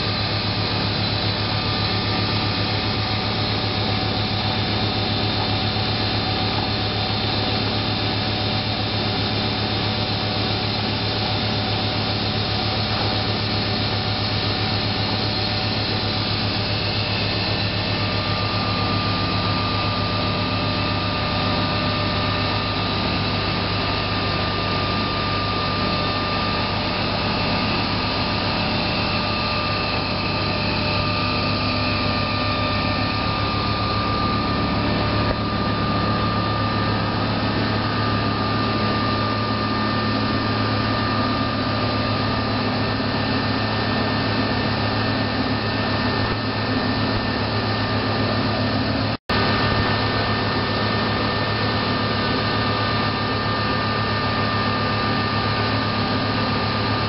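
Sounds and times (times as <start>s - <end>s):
book saw machine hum: 0.0s - 57.0s
high machine whine: 0.0s - 57.0s.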